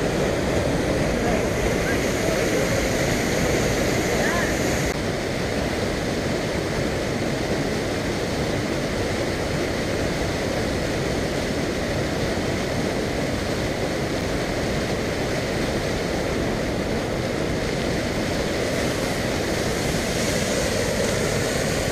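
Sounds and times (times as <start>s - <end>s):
small waterfall rushing: 0.0s - 21.9s.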